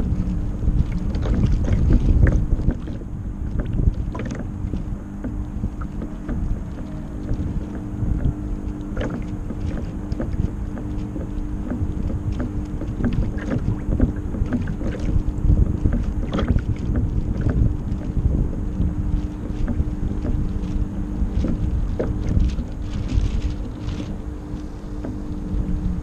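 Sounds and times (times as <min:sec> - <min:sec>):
steady low hum: 0:00.0 - 0:26.0
waves splashing against hull: 0:00.0 - 0:26.0
wind buffeting microphone: 0:00.0 - 0:26.0.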